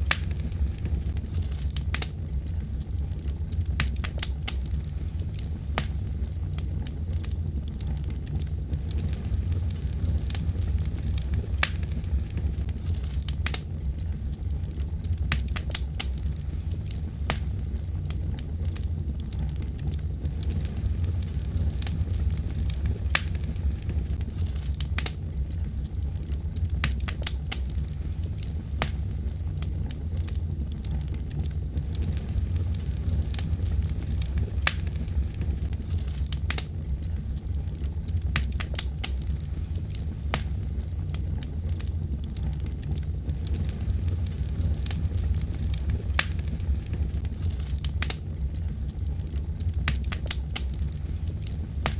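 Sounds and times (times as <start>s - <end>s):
wood fire crackling and popping: 0.0s - 51.9s.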